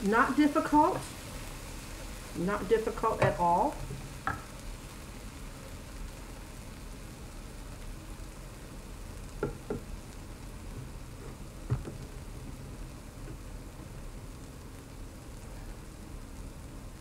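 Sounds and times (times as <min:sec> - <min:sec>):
food sizzling faintly in a pan: 0:00.0 - 0:17.0.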